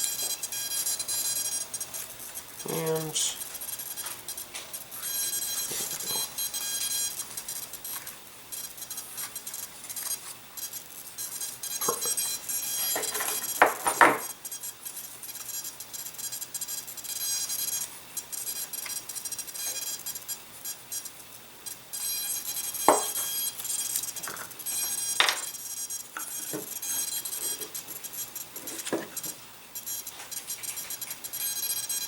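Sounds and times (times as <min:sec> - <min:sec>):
high-pitched servo buzz: 0:00.0 - 0:32.0.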